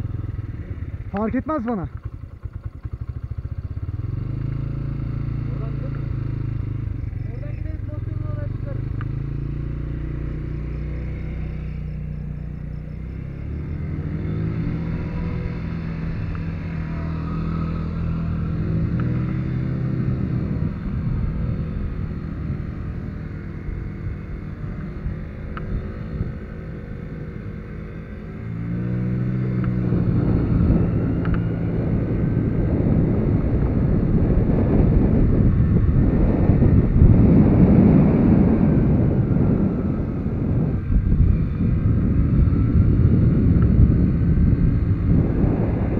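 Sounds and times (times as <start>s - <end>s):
moped engine accelerating: 0.0s - 45.9s
wind rushing over microphone: 2.1s - 45.9s.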